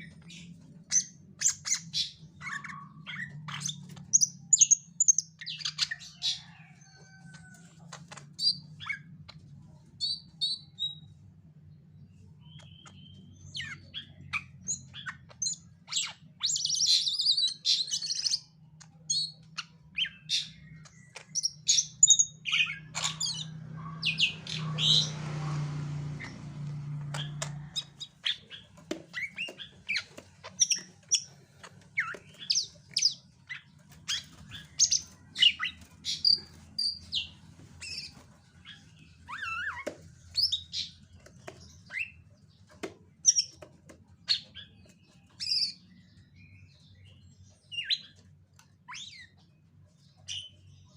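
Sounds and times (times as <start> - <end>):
bird chirping and calling: 0.0 - 11.2, 12.0 - 50.9.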